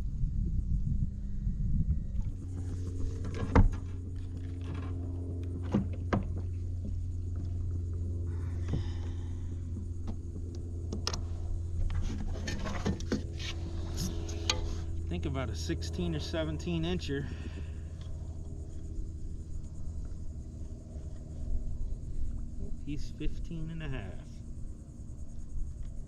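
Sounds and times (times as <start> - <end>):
low rumble: 0.0 - 26.0
steady motor hum: 0.0 - 26.0.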